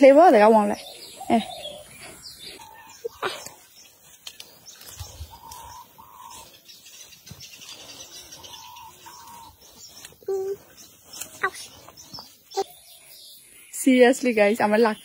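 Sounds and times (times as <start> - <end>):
birds whistling: 0.4 - 15.0.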